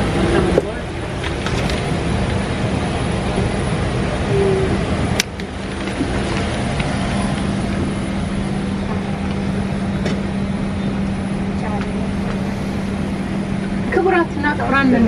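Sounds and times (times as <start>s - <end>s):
cabin air rush and hum: 0.0s - 15.0s.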